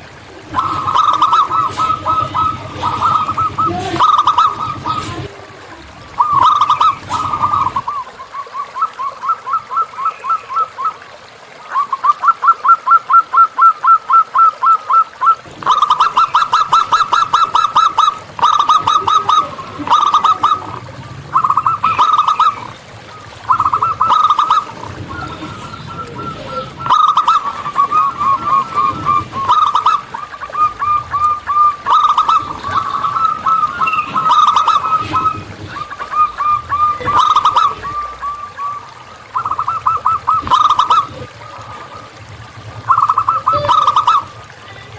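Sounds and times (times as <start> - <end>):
doves cooing: 0.0 - 44.9.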